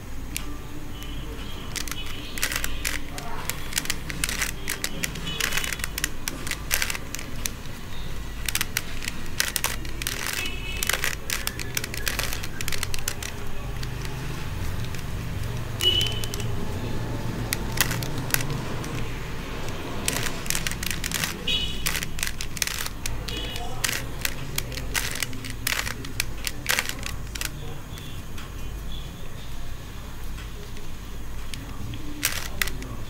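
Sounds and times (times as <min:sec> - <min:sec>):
puzzle cube clicking as turned: 0:00.2 - 0:28.2, 0:31.4 - 0:33.0.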